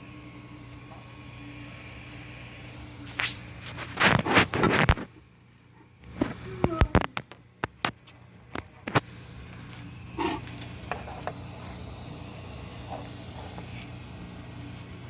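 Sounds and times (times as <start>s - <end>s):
motor rattling and grinding: 0.0s - 15.0s
steady electrical hum: 0.0s - 15.0s.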